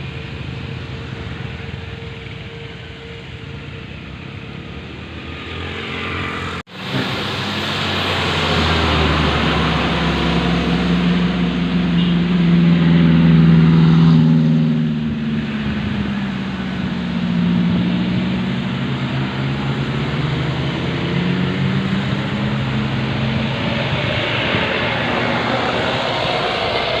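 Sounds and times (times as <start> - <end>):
truck engines labouring: 0.0 - 27.0.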